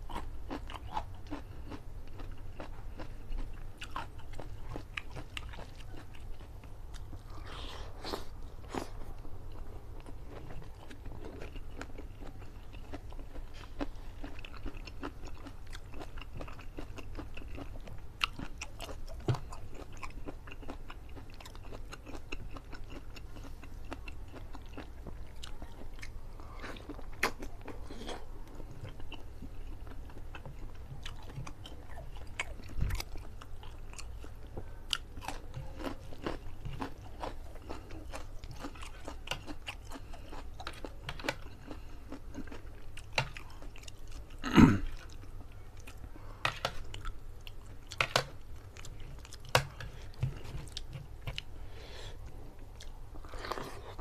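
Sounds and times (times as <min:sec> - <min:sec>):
man chewing with mouth sounds: 0:00.0 - 0:54.0.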